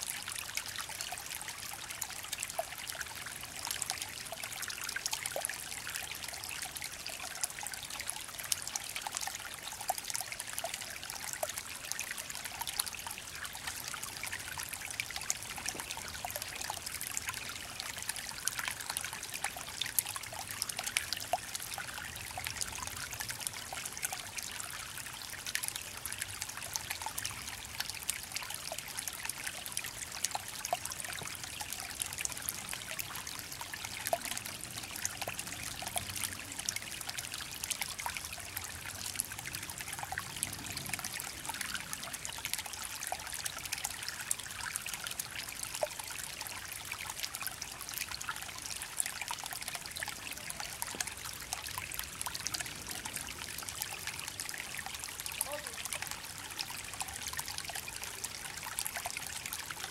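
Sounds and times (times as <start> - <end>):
creek trickling over stones: 0.0 - 59.9.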